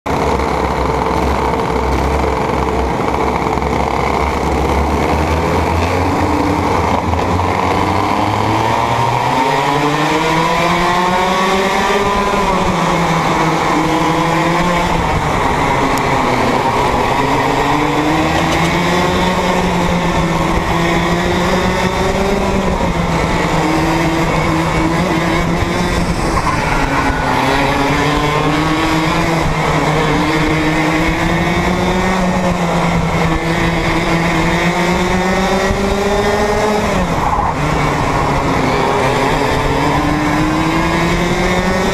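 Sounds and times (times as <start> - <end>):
two-stroke kart engine: 0.1 - 41.9.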